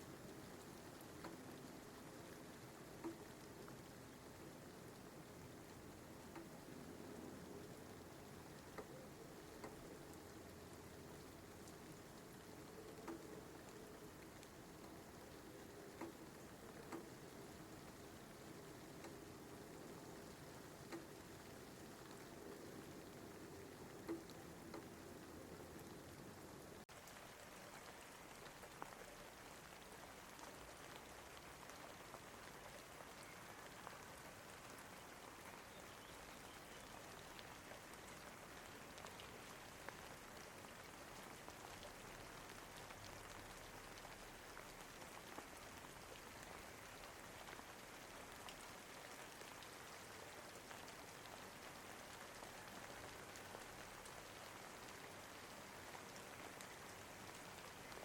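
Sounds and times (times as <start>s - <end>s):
faint steady rain: 0.0s - 58.0s
rain drop ticks: 0.0s - 58.0s.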